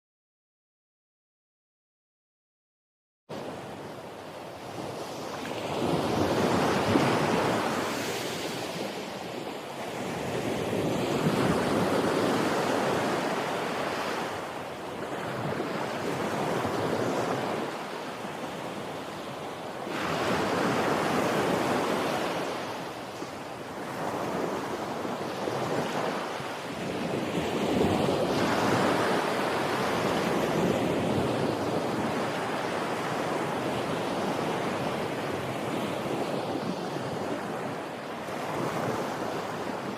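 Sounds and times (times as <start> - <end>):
sea waves breaking on shore: 3.3 - 39.9.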